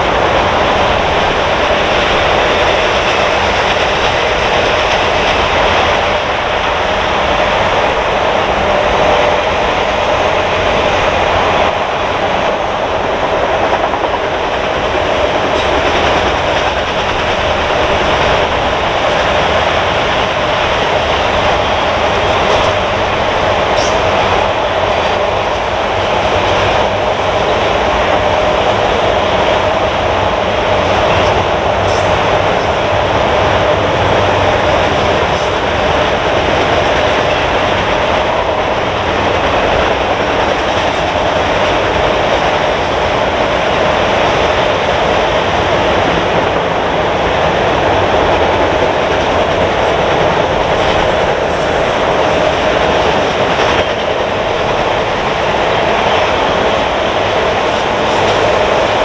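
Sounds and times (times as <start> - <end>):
freight train wheels on rail: 0.0 - 59.0.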